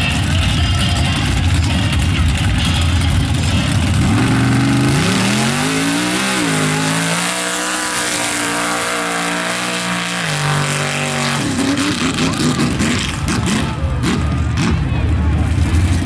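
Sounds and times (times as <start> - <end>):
truck engine revving: 0.0 - 16.0
tires slinging mud: 1.7 - 16.0.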